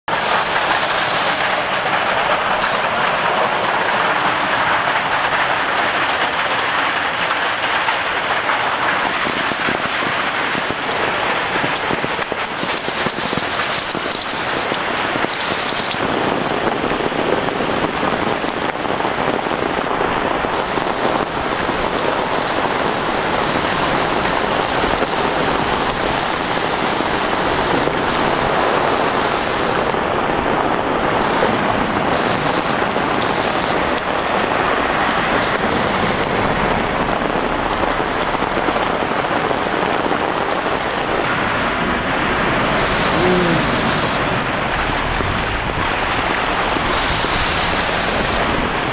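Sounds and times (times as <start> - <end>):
hail and heavy rain pelting: 0.1 - 48.9.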